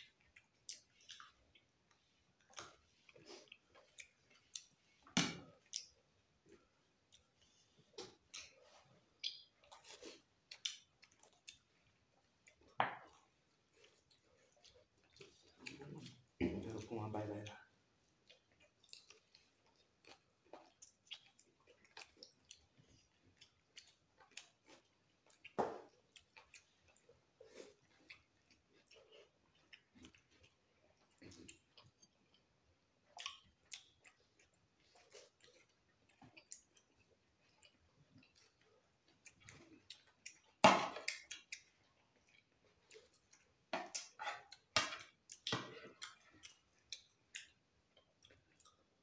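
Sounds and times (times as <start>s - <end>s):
chewing and mouth smacks: 0.0s - 49.0s.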